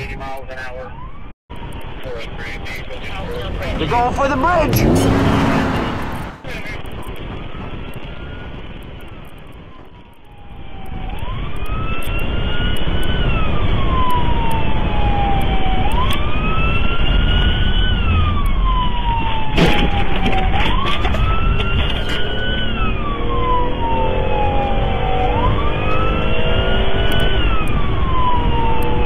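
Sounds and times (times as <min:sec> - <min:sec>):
car road and engine noise: 0:00.0 - 0:29.0
police siren wailing: 0:00.0 - 0:29.0.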